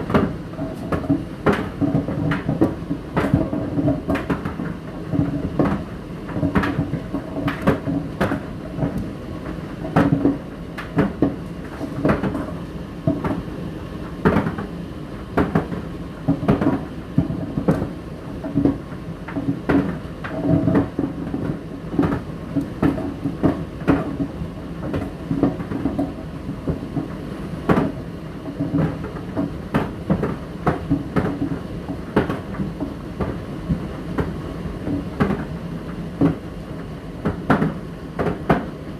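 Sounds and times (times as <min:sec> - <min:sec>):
load knocking in tumbling drum: 0:00.0 - 0:09.1, 0:09.8 - 0:13.4, 0:15.4 - 0:35.6, 0:36.2 - 0:36.4, 0:37.2 - 0:38.8.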